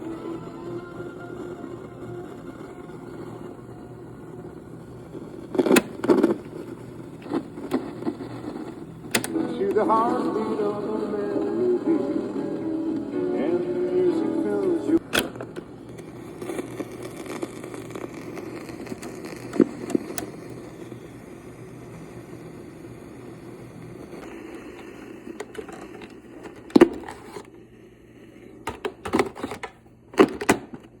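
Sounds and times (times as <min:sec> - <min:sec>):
tape hiss and hum: 0:00.0 - 0:31.0.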